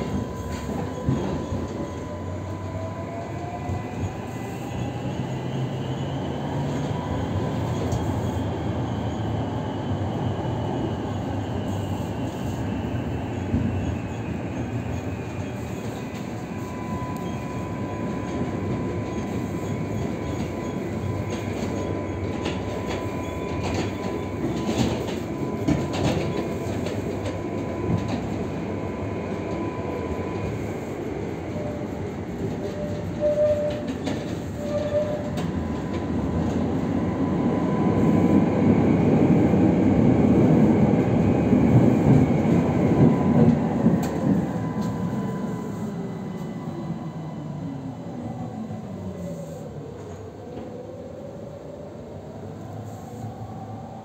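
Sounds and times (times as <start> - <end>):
tram rumbling on rails: 0.0 - 54.0.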